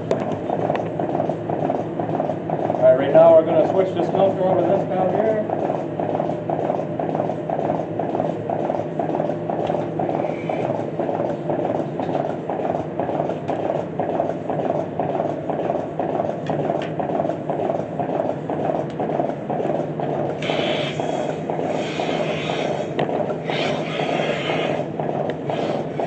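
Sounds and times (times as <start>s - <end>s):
milking machine pulsator clicking: 0.0s - 26.0s
milking system hum: 0.0s - 26.0s.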